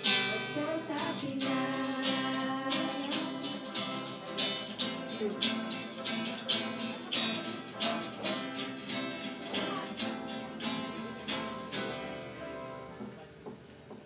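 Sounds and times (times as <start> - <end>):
acoustic guitars strummed: 0.0 - 14.0.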